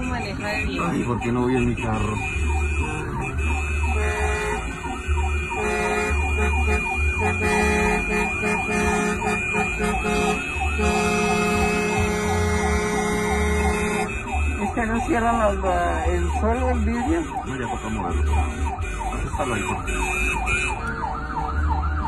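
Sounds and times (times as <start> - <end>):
emergency vehicle siren yelp: 0.0 - 22.0.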